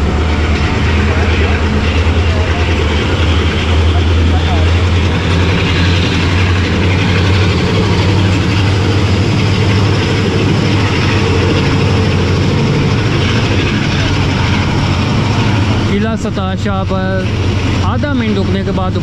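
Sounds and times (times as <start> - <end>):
train engine drone: 0.0 - 19.0
train running noise: 0.0 - 19.0.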